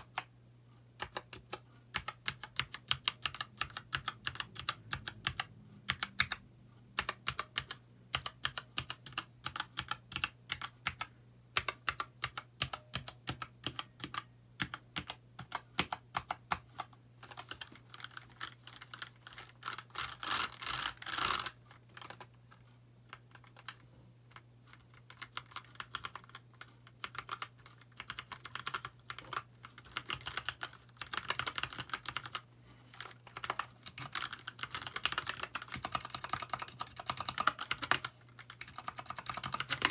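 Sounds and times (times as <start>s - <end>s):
mechanical keyboard typing: 0.0s - 0.3s, 1.0s - 22.3s, 23.1s - 39.9s.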